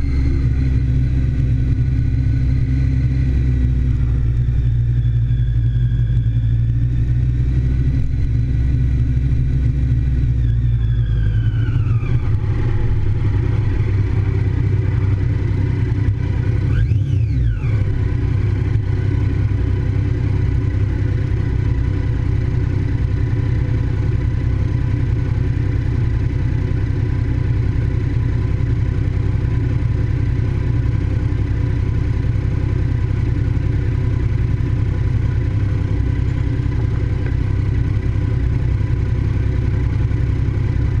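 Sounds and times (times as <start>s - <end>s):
motorcycle engine at speed: 0.0s - 41.0s.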